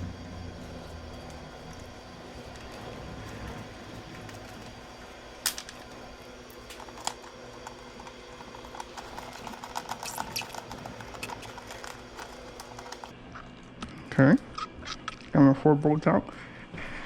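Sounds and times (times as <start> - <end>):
low hum: 0.0 - 15.3.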